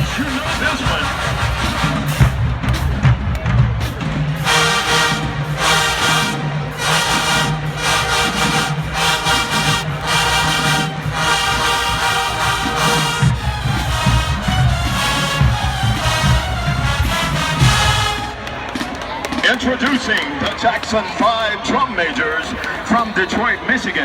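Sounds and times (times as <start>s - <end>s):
marching band brass and drums: 0.0s - 21.4s.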